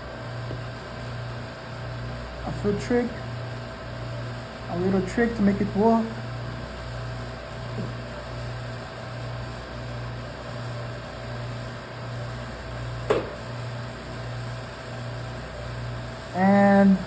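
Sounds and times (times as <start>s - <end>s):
machine pulsing hum: 0.0s - 17.0s.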